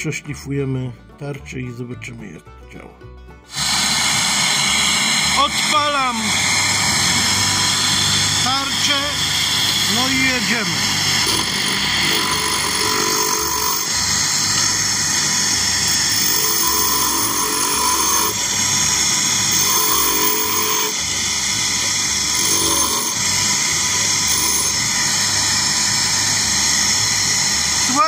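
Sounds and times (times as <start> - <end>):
bench grinder grinding: 3.5 - 28.0.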